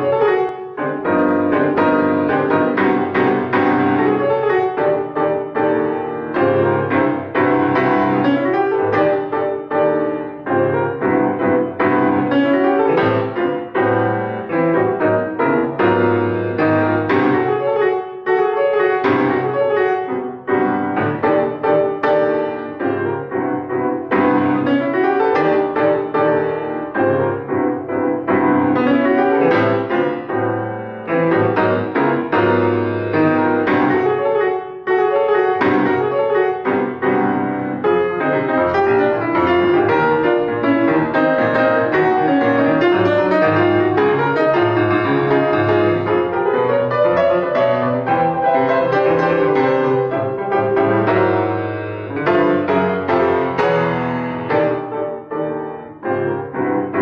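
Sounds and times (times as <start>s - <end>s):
grand piano playing: 0.0s - 57.0s.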